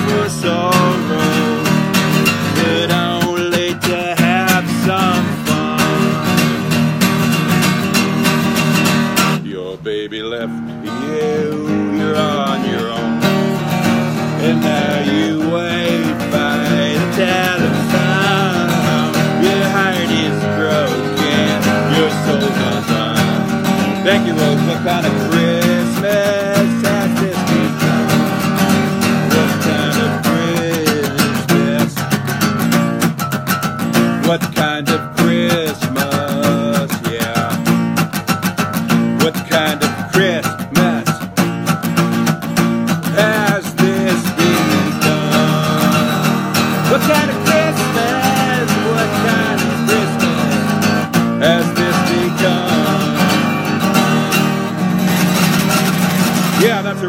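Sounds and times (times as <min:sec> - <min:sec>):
man singing: 0:00.0 - 0:08.6, 0:09.2 - 0:32.8, 0:33.7 - 0:41.7, 0:42.5 - 0:57.0
acoustic guitar strumming: 0:00.0 - 0:57.0.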